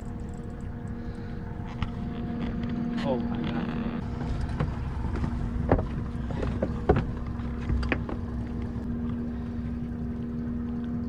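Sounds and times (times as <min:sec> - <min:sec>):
boat motor hum: 0:00.0 - 0:11.0.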